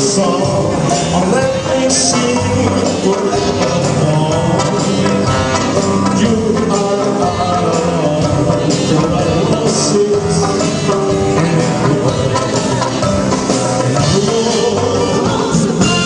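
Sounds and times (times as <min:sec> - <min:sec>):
live band playing music: 0:00.0 - 0:16.0.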